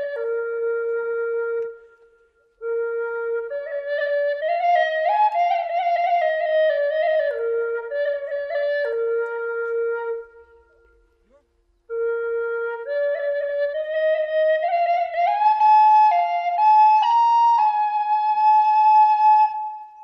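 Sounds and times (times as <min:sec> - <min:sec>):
flute-like slow melody: 0:00.0 - 0:20.0.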